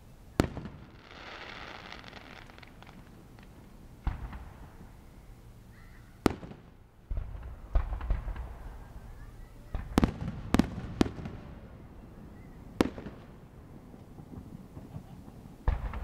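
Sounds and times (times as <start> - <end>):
fireworks crackling and banging: 0.0 - 5.6, 6.2 - 11.8, 12.7 - 16.0.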